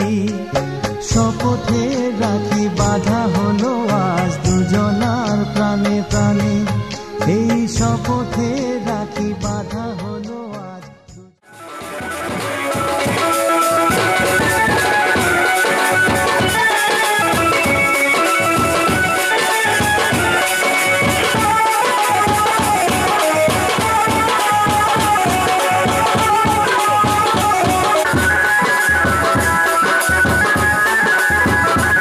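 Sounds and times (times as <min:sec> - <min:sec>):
melody over drum beat: 0:00.0 - 0:10.3, 0:11.4 - 0:32.0.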